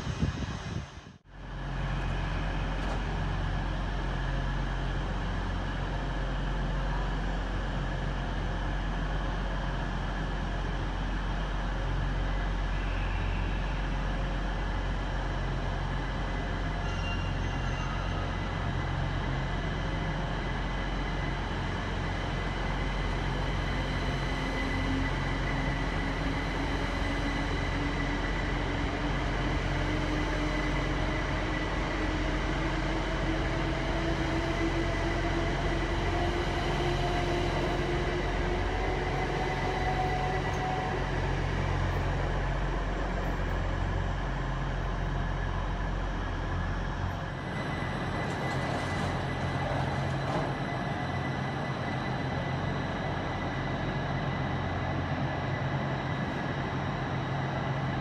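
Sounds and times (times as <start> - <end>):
train running rumble: 0.0 - 58.0
electric train traction motors whining: 1.5 - 58.0.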